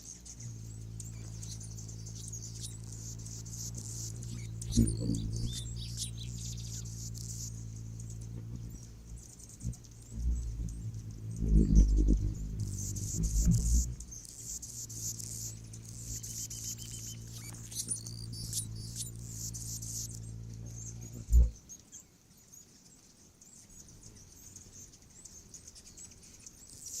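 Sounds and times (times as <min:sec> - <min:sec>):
low hum: 0:00.0 - 0:21.8
hummingbirds chittering: 0:00.0 - 0:27.0.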